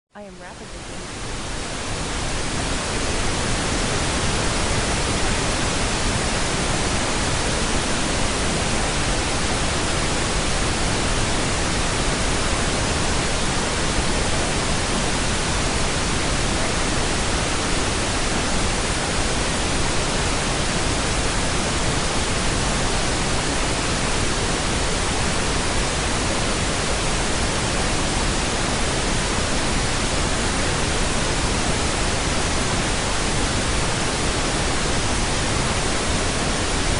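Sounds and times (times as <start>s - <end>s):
steady pink noise hiss: 0.2s - 36.9s.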